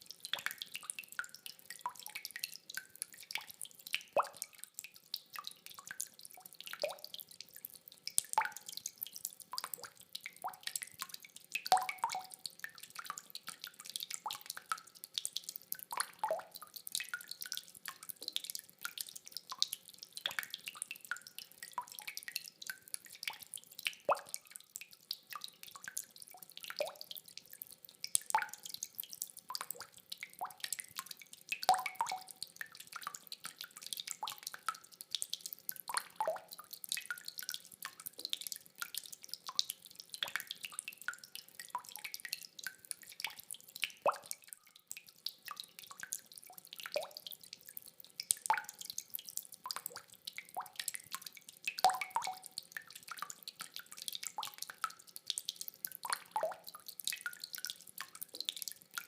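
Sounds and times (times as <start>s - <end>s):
rainwater dripping: 0.0s - 59.0s.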